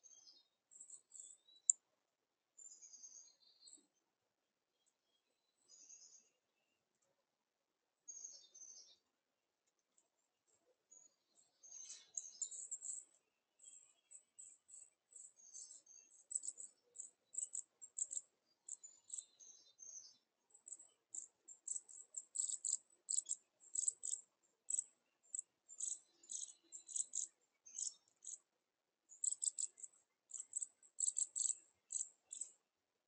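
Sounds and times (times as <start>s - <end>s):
small birds chirping: 0.0s - 7.2s, 8.0s - 32.8s.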